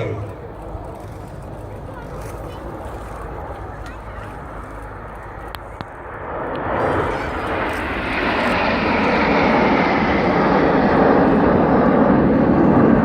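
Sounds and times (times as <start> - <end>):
jets passing overhead: 0.0 - 13.0.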